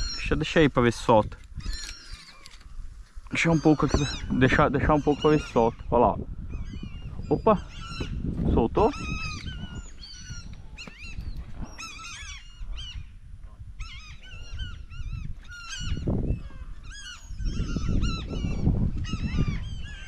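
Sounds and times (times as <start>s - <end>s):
flock of birds calling harshly: 0.0s - 13.2s, 13.8s - 20.0s.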